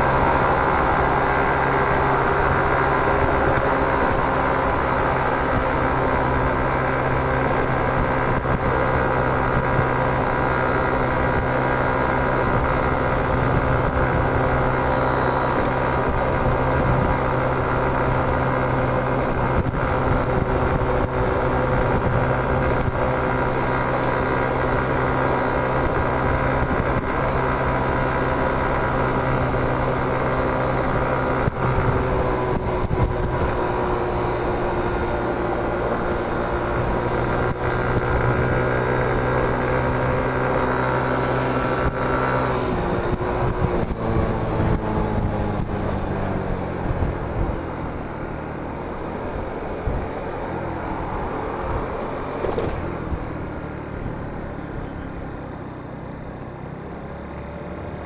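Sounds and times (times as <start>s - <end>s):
motor scooter engine running: 0.0s - 58.0s
road and wind noise: 0.0s - 58.0s.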